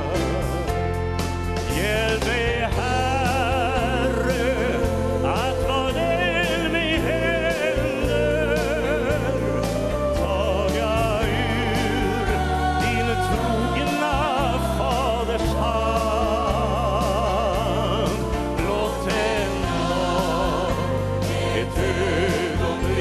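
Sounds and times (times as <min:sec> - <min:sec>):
band with bass and drums: 0:00.0 - 0:23.0
gospel choir singing: 0:00.0 - 0:23.0
man singing with vibrato: 0:01.7 - 0:23.0.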